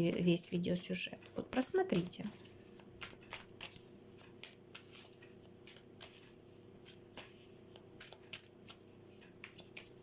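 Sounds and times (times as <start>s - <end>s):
cards being shuffled: 1.2s - 10.0s.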